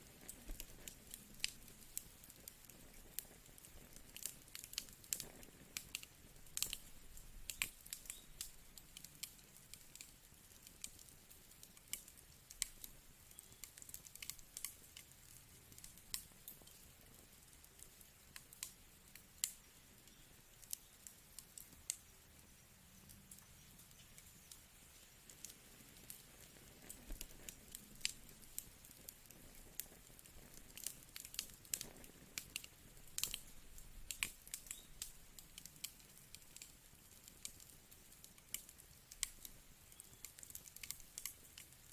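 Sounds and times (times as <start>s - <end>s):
faint low hiss: 0.0s - 41.9s
wood fire crackling: 0.0s - 41.9s.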